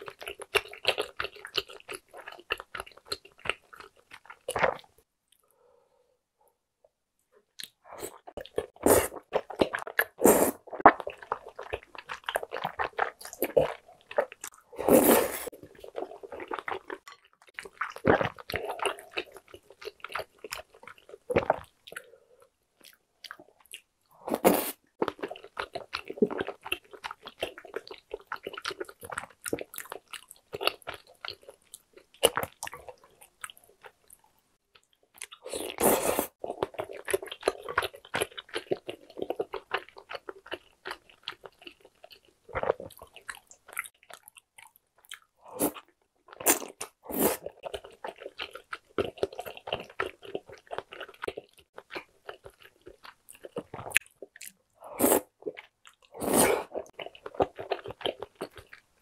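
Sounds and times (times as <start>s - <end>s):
wet chewing sounds: 0.0s - 5.4s, 7.6s - 59.0s.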